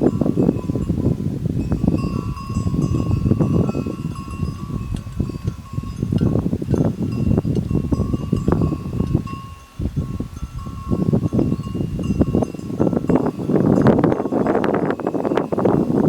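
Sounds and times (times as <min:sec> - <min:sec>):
animal bell clanking: 0:00.0 - 0:16.0.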